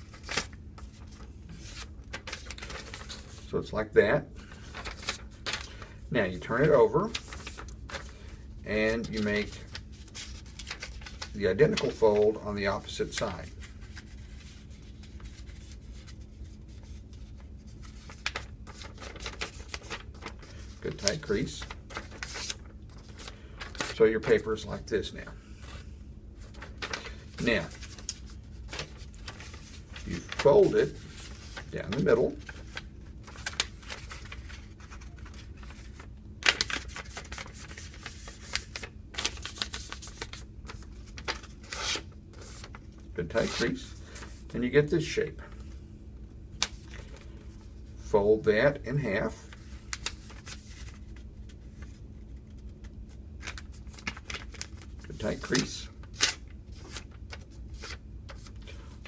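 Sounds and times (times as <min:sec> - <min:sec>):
paper being folded and creased: 0:00.0 - 0:03.5, 0:04.5 - 0:24.7, 0:26.4 - 0:44.5, 0:46.6 - 0:48.1, 0:49.0 - 0:59.0.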